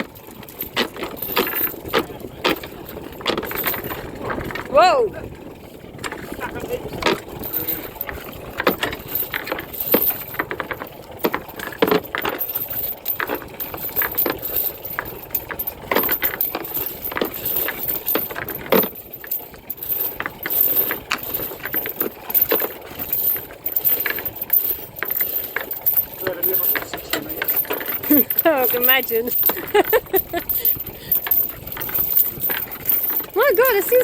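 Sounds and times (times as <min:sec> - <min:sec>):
chain links clinking and rattling: 0:00.0 - 0:34.0.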